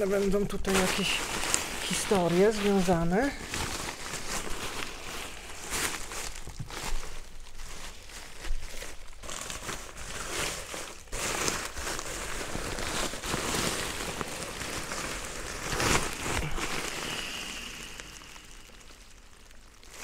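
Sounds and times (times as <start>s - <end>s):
sleeping pad crinkling and rustling: 0.0s - 20.0s.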